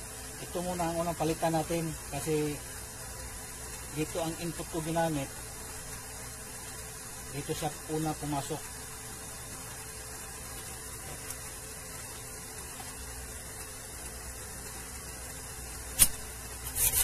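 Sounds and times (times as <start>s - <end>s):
low hiss and hum: 0.0s - 17.0s.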